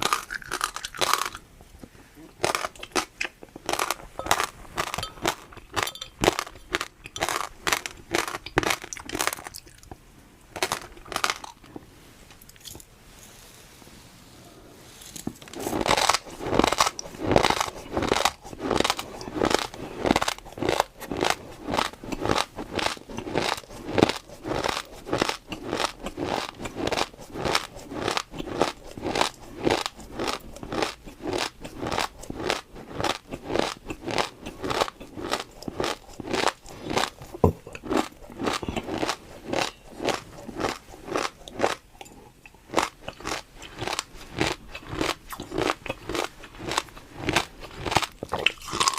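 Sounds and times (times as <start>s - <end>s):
chewing crunchy food: 0.0s - 10.0s, 10.6s - 11.8s, 15.3s - 48.9s.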